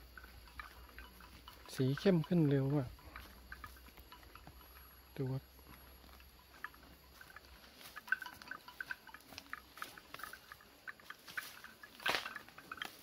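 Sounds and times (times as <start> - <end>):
cow chewing grass: 0.0 - 13.0.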